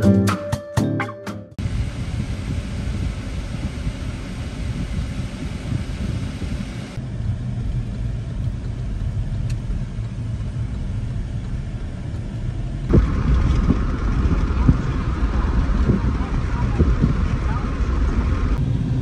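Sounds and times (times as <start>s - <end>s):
car engine and road noise: 1.6s - 19.0s.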